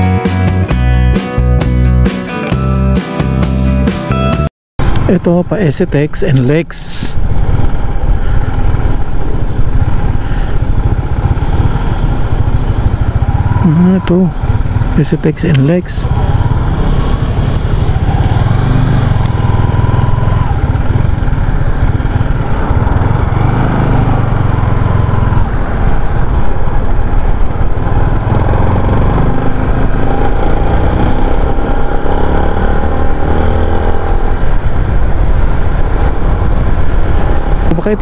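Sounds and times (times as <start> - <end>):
wind rumble on microphone: 6.3 - 15.0, 15.8 - 38.0
motorcycle engine running: 7.1 - 38.0.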